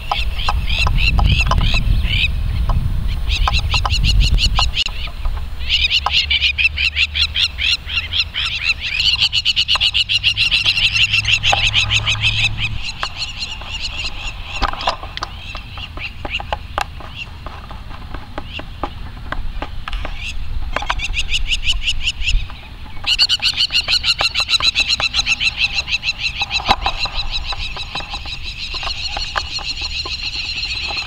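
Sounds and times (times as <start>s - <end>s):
lapwings giving shrill alarm calls: 0.0s - 31.0s.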